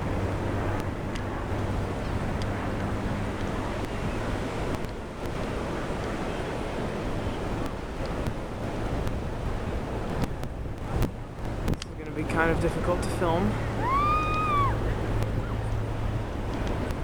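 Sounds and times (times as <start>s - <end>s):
ocean surf: 0.0s - 17.0s
wind on microphone: 0.0s - 17.0s.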